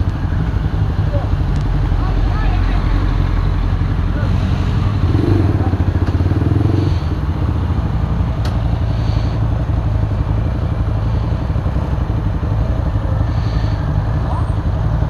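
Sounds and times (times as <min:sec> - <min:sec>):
motorcycle engine idling: 0:00.0 - 0:15.0
other motorcycles idling: 0:00.0 - 0:15.0.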